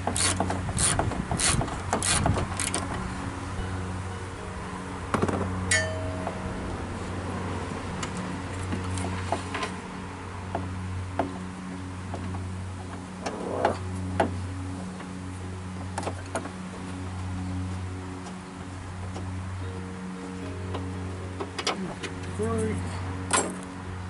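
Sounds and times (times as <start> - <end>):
soft ambient music: 0.0 - 24.0.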